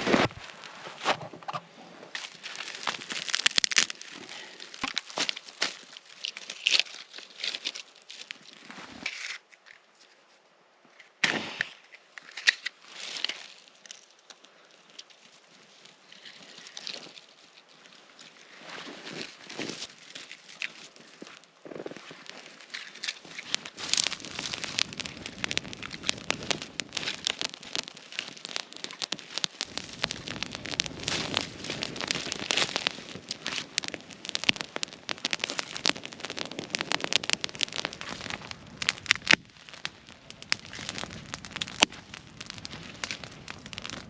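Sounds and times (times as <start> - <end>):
fire crackling and popping: 0.0 - 9.8, 11.2 - 44.0.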